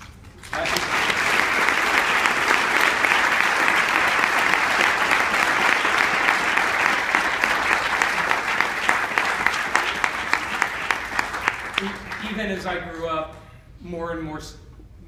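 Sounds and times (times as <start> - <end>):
audience applauding: 0.5 - 12.8.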